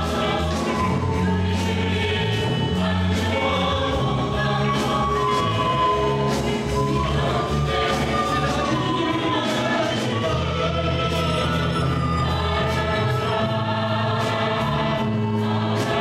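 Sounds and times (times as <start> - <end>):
voices singing together: 0.0 - 16.0.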